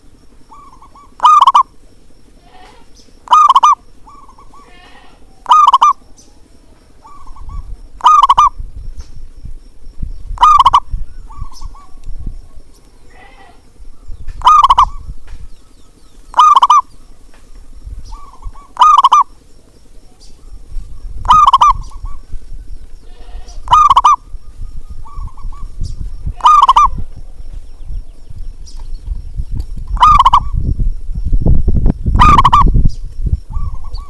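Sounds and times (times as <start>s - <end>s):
dove cooing: 0.0s - 8.7s, 10.3s - 28.3s, 29.4s - 30.8s, 32.1s - 32.8s, 33.4s - 34.0s.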